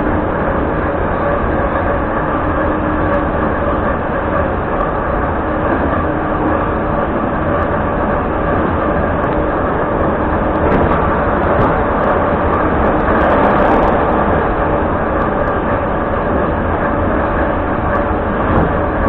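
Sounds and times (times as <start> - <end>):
faint steady whine: 0.0 - 19.0
train wheels rumbling on rails: 0.0 - 19.0.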